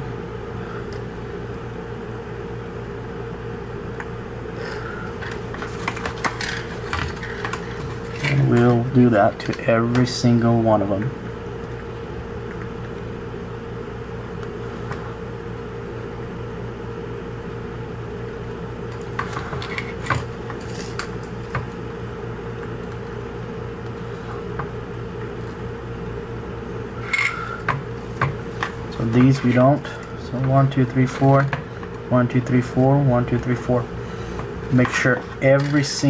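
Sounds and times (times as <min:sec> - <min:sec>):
small fan humming: 0:00.0 - 0:36.0.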